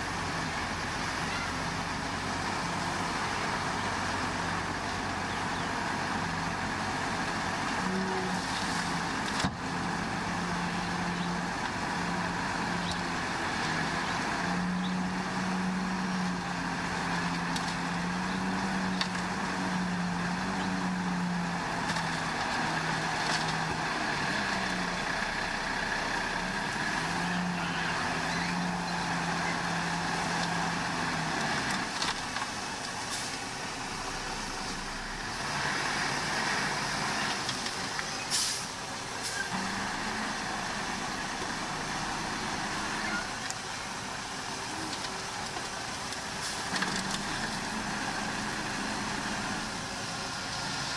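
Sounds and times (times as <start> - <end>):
diesel machinery engine: 0.0 - 50.9.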